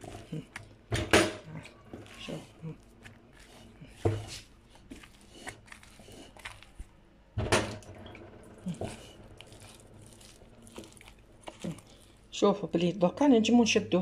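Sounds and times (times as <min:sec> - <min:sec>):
hand squelching wet dough: 0:00.0 - 0:07.1, 0:08.1 - 0:13.8
dough thud: 0:00.0 - 0:11.9.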